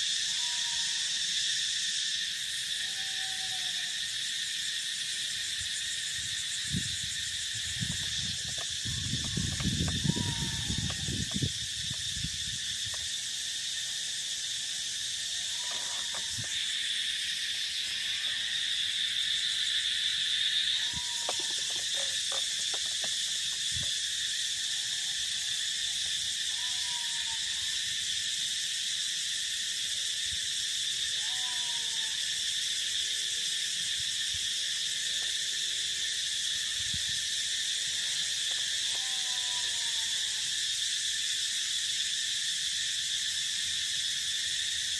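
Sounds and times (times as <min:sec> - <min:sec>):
insects chirping: 0:00.0 - 0:44.9.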